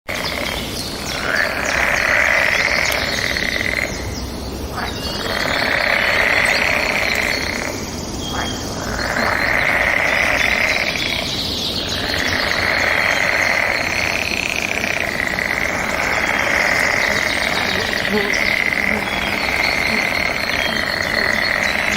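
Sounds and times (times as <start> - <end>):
birds chirping: 0.1 - 21.9
loud droning chorus: 1.2 - 21.9.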